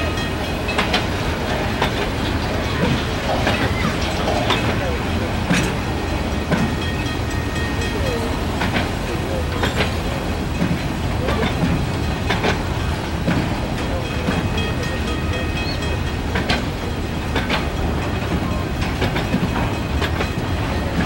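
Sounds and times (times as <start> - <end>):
train wheels rumbling on rail: 0.0 - 21.0
wheels clacking over rail joints: 0.0 - 21.0.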